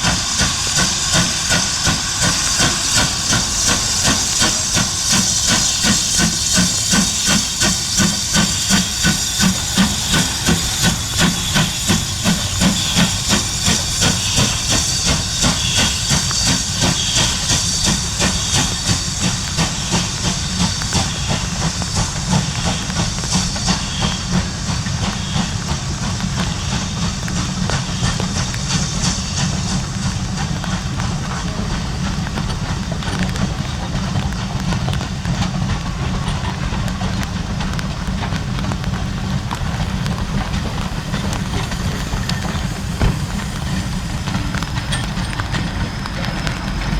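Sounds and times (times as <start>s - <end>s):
steam hiss: 0.0s - 46.9s
steam locomotive exhaust beats: 0.0s - 46.9s.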